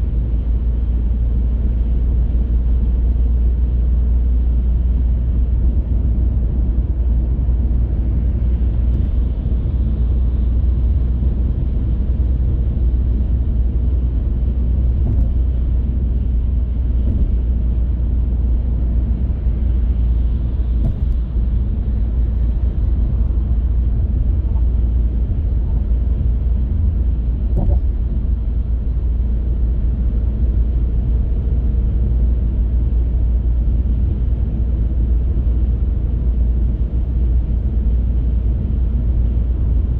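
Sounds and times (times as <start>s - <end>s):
car road and tyre rumble: 0.0s - 39.9s.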